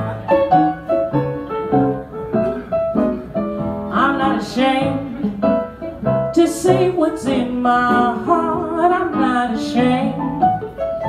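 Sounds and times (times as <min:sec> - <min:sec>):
jazz guitar chords: 0:00.0 - 0:11.0
walking upright bass: 0:00.0 - 0:11.0.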